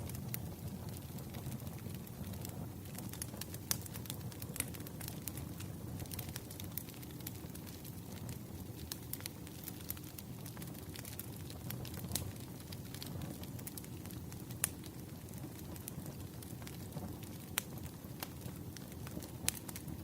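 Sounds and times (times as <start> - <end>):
fire crackling: 0.0 - 20.0
low rumble of flames: 0.0 - 20.0.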